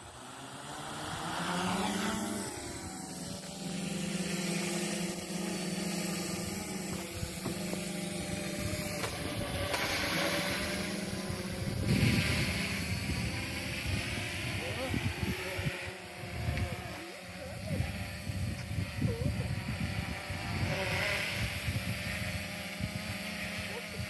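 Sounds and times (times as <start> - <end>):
quadcopter motors buzzing: 0.0 - 24.0.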